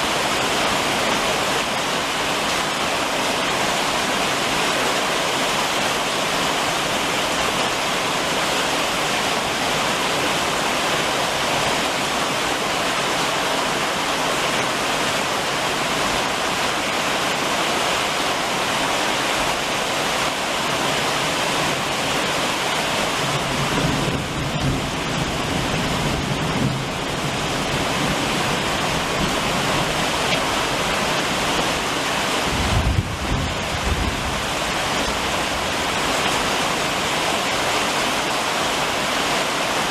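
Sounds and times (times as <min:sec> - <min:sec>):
rain drumming on a roof: 0:00.0 - 0:39.9.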